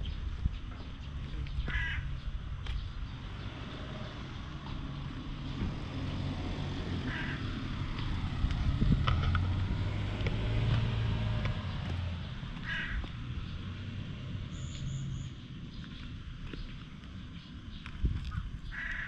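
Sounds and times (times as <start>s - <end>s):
vehicle engine hum passing: 0.0s - 19.0s.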